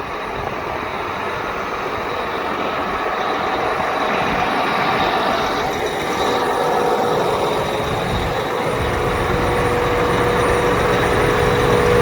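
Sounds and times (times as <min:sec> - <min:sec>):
steady whine: 0:00.0 - 0:12.0
tractor diesel engine running: 0:00.0 - 0:12.0.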